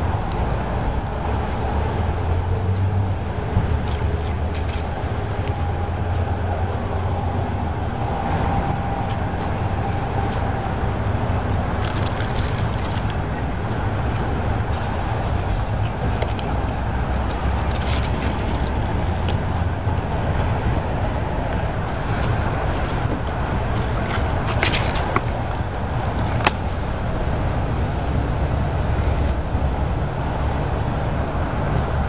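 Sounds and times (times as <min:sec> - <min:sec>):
low rumble and hiss: 0:00.0 - 0:32.0.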